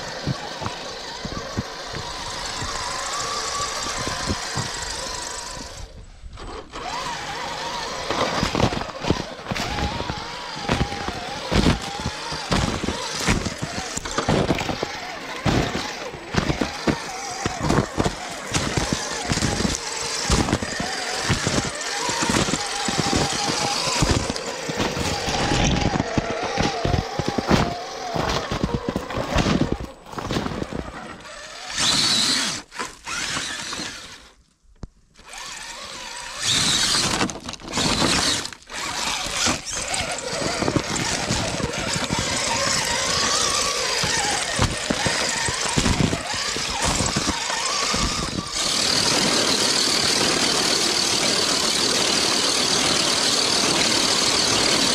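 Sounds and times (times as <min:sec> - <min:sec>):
rc car motor whining: 0:00.0 - 0:34.4, 0:35.2 - 0:54.9
tyres crunching over icy snow: 0:00.0 - 0:34.4, 0:35.2 - 0:54.9.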